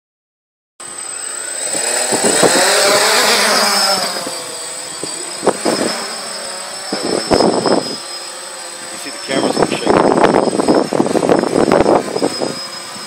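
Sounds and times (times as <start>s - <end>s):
drone propellers buzzing: 0.8s - 13.0s.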